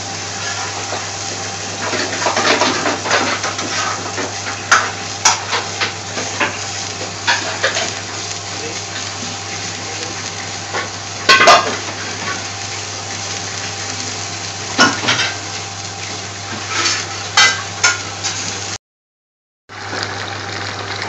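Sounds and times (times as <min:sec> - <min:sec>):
pot boiling and bubbling: 0:00.0 - 0:18.8, 0:19.7 - 0:21.0.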